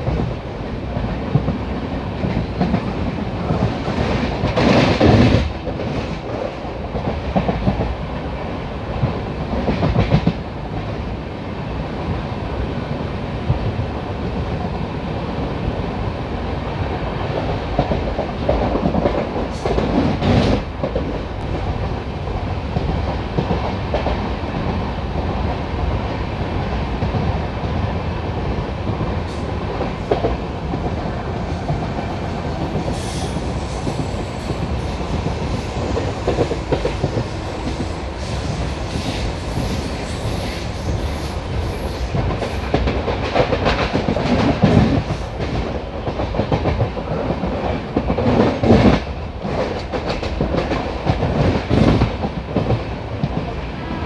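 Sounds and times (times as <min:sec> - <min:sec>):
train wheels clattering on rail: 0:00.0 - 0:54.0.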